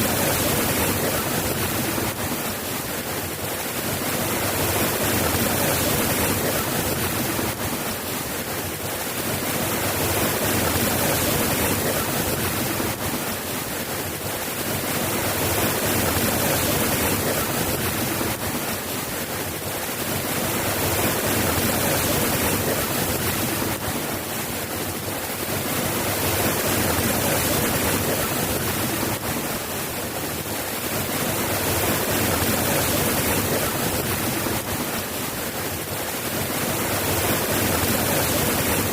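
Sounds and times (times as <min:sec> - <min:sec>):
dense rainfall: 0:00.0 - 0:38.9.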